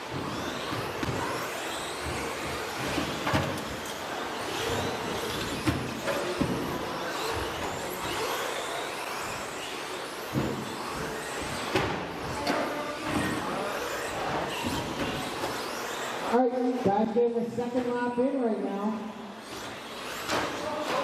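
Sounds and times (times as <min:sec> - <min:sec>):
rc truck motors whining: 0:00.0 - 0:16.9, 0:19.0 - 0:21.0.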